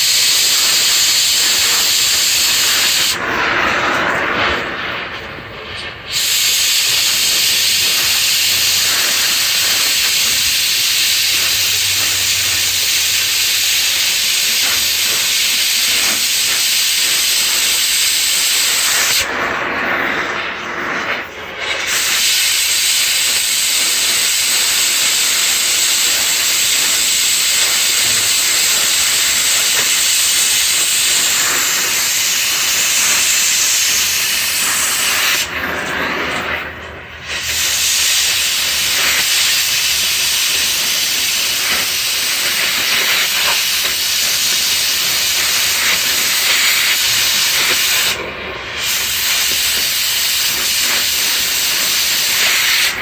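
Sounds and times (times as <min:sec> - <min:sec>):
cutting torch hissing: 0:00.0 - 0:53.0.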